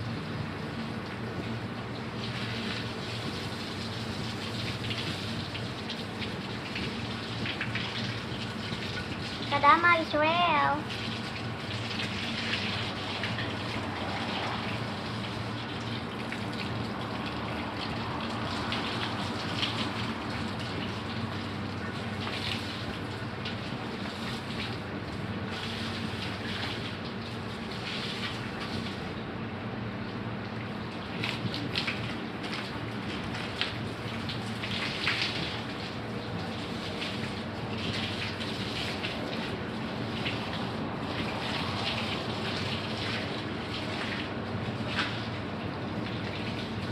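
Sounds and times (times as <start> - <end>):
water running and splashing: 0.6 - 29.1, 30.6 - 46.9.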